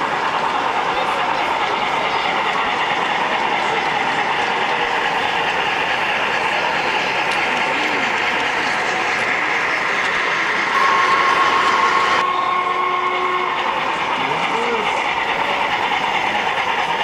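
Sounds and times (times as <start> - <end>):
model train wheels clattering on rails: 0.0 - 11.2, 13.3 - 17.0
constant background din: 0.0 - 17.0.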